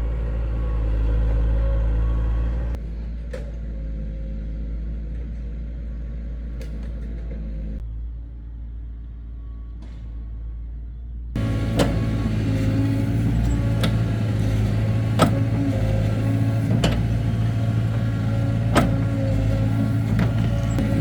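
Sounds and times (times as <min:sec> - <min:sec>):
diesel engine running: 0:00.0 - 0:08.6, 0:11.4 - 0:21.0.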